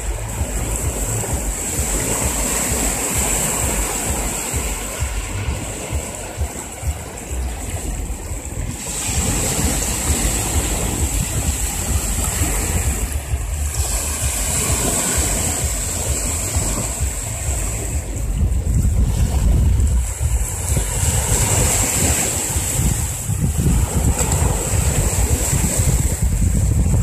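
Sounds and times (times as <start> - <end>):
small waves on sandy shore: 0.0 - 27.0
wind buffeting microphone: 0.0 - 27.0.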